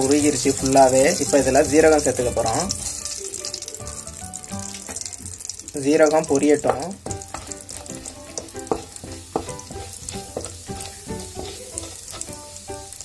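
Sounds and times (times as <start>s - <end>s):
seeds sizzling in butter: 0.0s - 13.0s
wooden spoon stirring: 0.0s - 13.0s.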